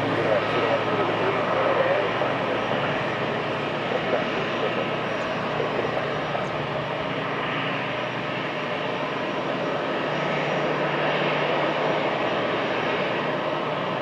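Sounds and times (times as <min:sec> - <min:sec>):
airliner engines rushing: 0:00.0 - 0:14.0.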